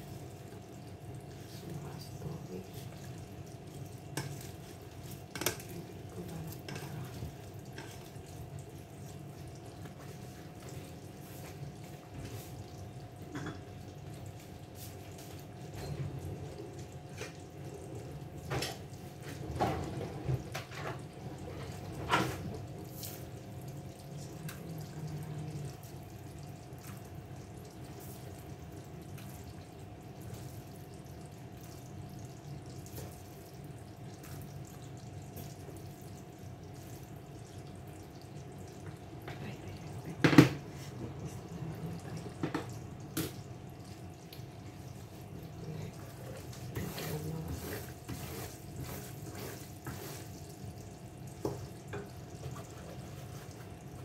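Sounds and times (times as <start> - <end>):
water running: 0.0 - 54.0.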